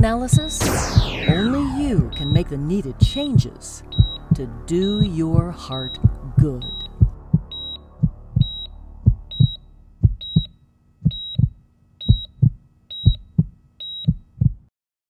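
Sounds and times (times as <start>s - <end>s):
heartbeat thumps: 0.0s - 14.7s
cardiac monitor beeps: 0.3s - 2.5s, 3.9s - 14.4s.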